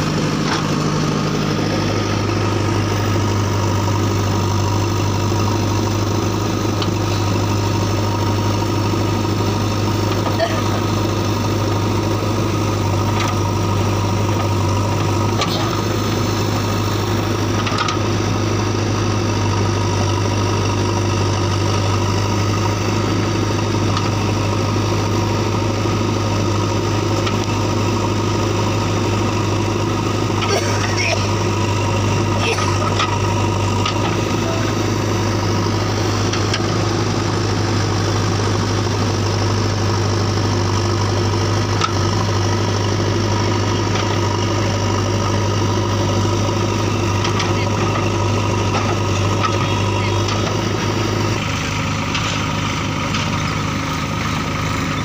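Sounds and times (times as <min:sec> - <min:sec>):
backhoe diesel engine running: 0:00.0 - 0:55.0.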